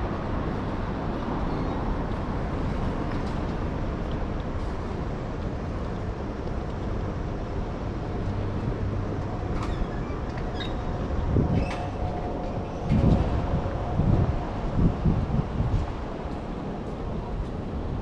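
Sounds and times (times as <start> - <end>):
passing vehicles rumbling: 0.0 - 18.0.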